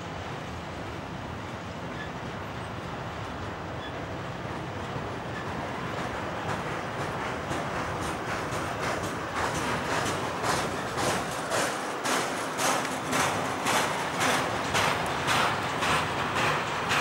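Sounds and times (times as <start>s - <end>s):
freight train rolling past: 0.0s - 17.0s
wheels clattering over rail joints: 3.3s - 17.0s.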